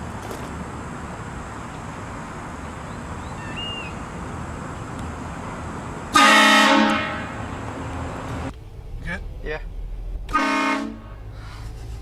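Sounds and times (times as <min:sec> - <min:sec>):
street noise with low rumble: 0:00.0 - 0:12.0.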